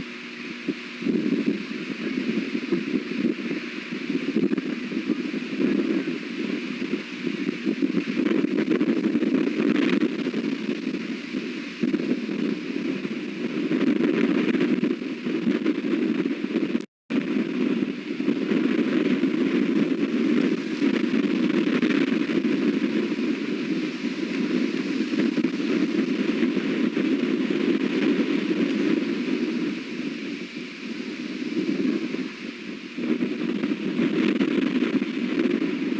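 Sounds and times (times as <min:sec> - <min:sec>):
strong wind buffeting microphone: 0:00.0 - 0:35.9.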